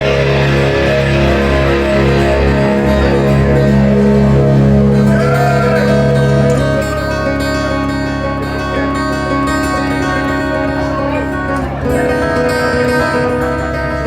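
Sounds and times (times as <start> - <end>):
guitar chords: 0.0 - 14.0
live rock band playing: 0.0 - 14.0
strong bass: 0.0 - 14.0.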